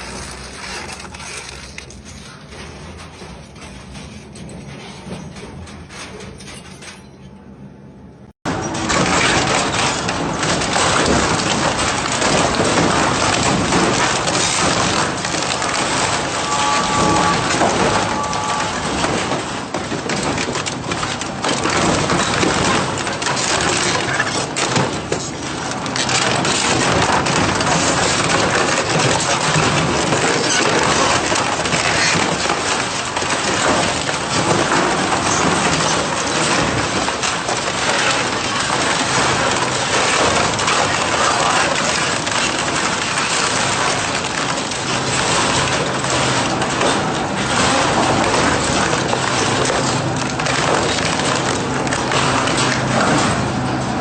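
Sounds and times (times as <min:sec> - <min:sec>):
metal shredder crunching: 0:00.0 - 0:07.4, 0:08.4 - 0:54.0.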